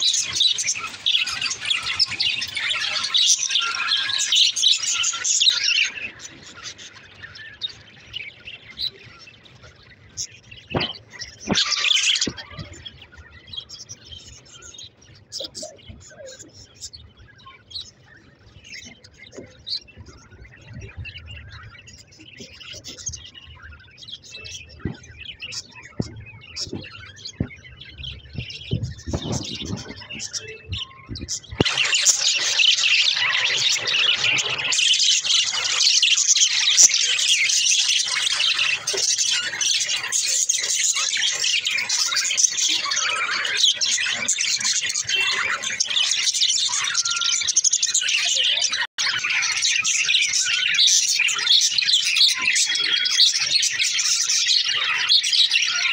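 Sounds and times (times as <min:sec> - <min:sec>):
budgerigars chattering: 0:00.0 - 0:55.9.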